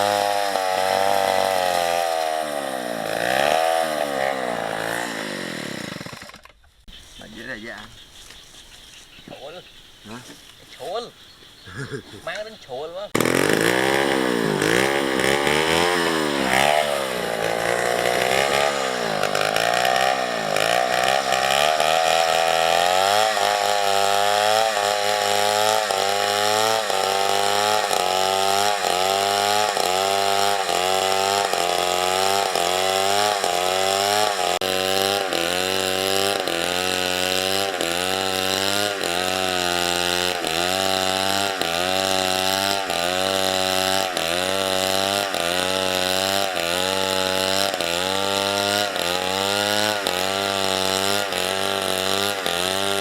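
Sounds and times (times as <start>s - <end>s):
chainsaw cutting wood: 0.0s - 6.6s, 13.1s - 53.0s.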